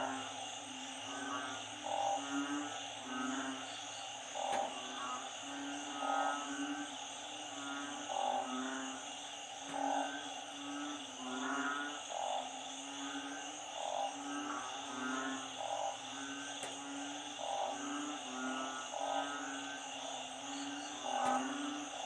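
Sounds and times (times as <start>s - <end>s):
frogs low moaning calls: 0.0s - 22.0s.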